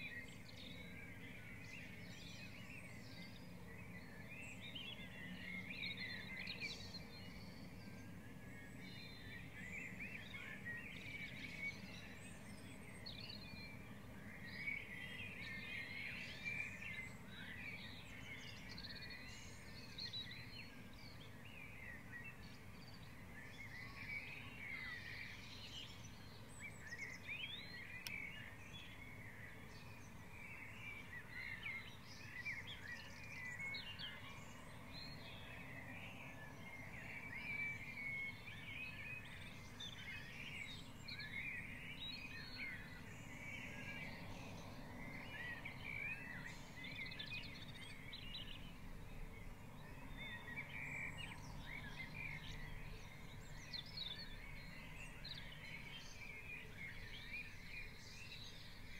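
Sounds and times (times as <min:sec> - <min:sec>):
many birds singing: 0:00.0 - 0:58.9.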